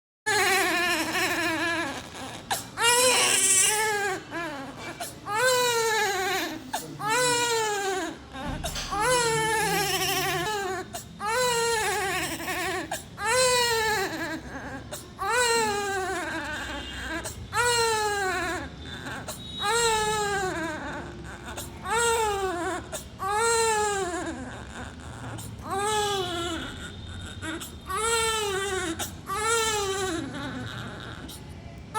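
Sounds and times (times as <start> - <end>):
baby crying: 0.3 - 31.4.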